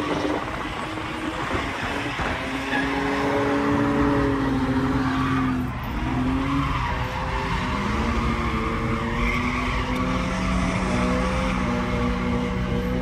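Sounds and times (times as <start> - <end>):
car engines revving hard: 0.0 - 13.0
tyres skidding and squealing: 0.0 - 13.0.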